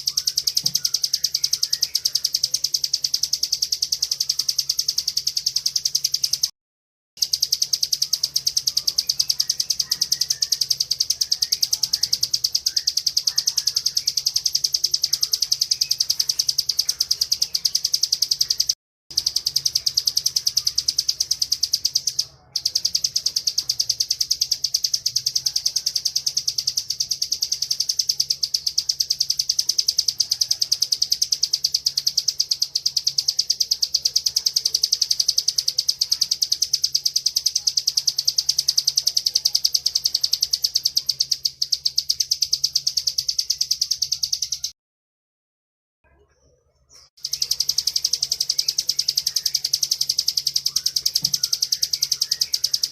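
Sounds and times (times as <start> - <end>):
bird singing high buzzing trill: 0.0 - 6.5, 7.2 - 44.8, 47.2 - 52.9.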